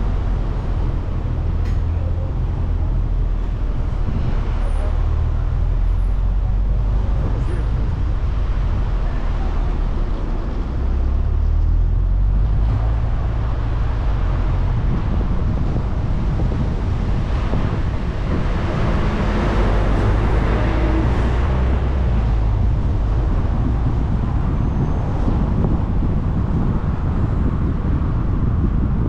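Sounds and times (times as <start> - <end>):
broad rushing noise: 0.0 - 29.0
car road and engine rumble: 0.0 - 29.0.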